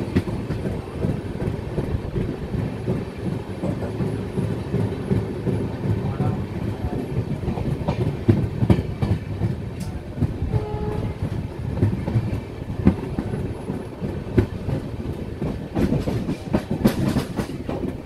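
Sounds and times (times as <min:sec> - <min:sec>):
train rumbling: 0:00.0 - 0:18.0
wheels clacking over rail joints: 0:00.0 - 0:18.0.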